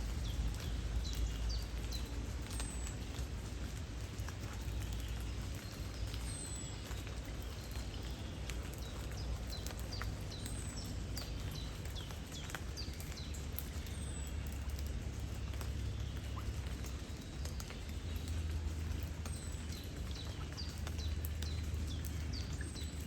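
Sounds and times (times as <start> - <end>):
flowing river water: 0.0 - 23.0
light rain pattering: 0.0 - 23.0.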